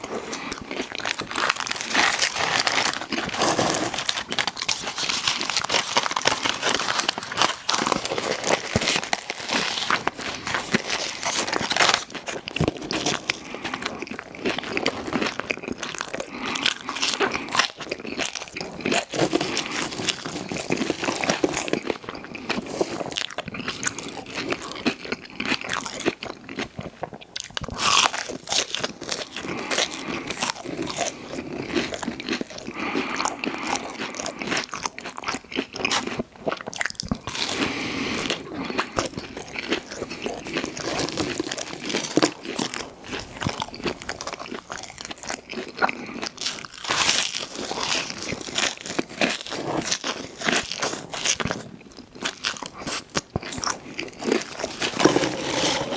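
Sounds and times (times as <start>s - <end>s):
crunchy bites and chewing: 0.0s - 55.9s.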